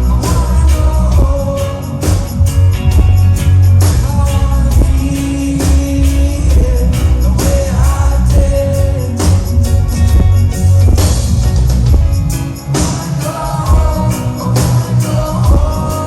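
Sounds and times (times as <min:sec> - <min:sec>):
live reggae band: 0:00.0 - 0:16.0.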